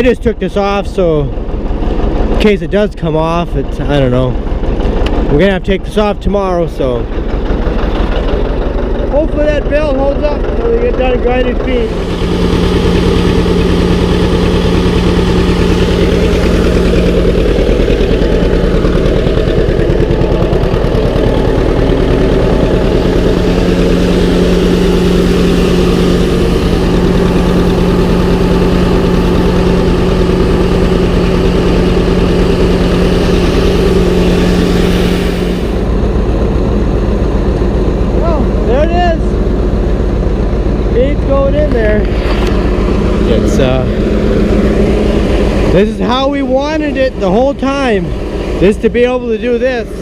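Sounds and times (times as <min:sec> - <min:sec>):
tractor engine running: 0:00.0 - 0:50.0
feed grinder grinding: 0:03.3 - 0:50.0.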